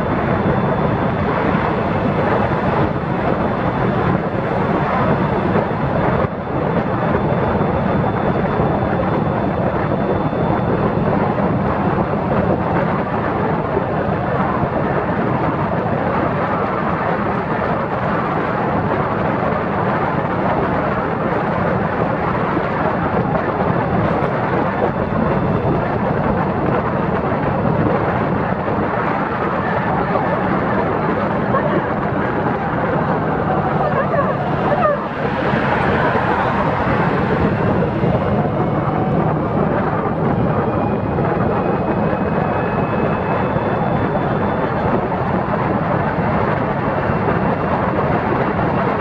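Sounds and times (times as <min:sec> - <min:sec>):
low hum: 0:00.0 - 0:49.0
vehicle motor and road noise: 0:00.0 - 0:49.0
wind buffeting microphone: 0:00.0 - 0:49.0.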